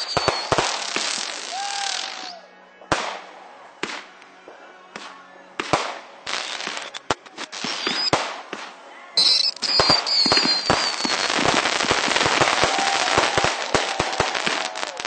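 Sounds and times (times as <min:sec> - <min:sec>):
fireworks bangs with echo: 0:00.0 - 0:04.2, 0:04.9 - 0:15.0
fireworks crackling: 0:00.0 - 0:04.3, 0:04.9 - 0:15.0.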